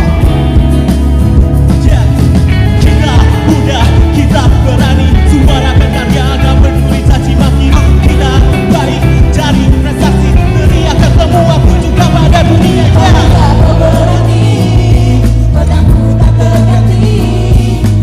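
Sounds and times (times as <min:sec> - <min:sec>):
band with drums and bass: 0:00.0 - 0:18.0
person singing: 0:01.7 - 0:18.0.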